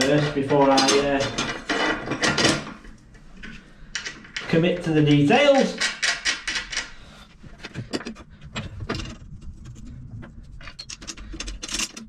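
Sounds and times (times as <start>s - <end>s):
metal parts clicking and knocking: 0.0s - 9.9s, 10.5s - 12.0s.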